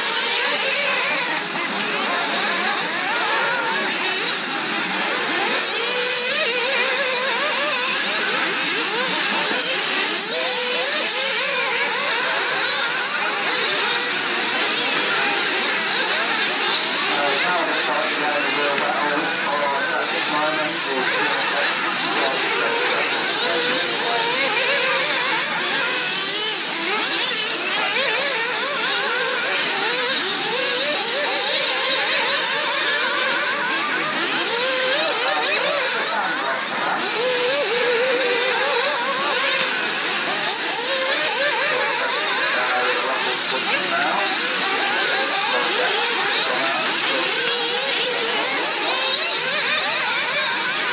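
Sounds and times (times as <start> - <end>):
rc car engines revving: 0.0 - 50.9.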